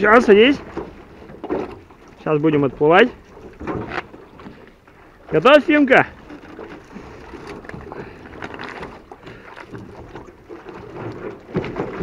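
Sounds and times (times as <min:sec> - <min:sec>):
knocks and shuffling in a boat: 0:00.0 - 0:12.0
water splashing: 0:00.0 - 0:12.0.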